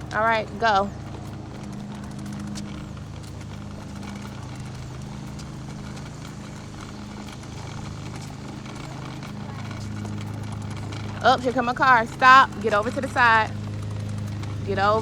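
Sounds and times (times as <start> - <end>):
small wheels rolling on pavement: 0.0 - 15.0.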